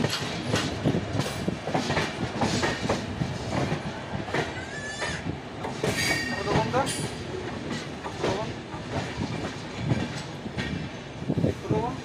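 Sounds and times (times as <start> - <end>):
train wheels clacking over rail joints: 0.0 - 11.2.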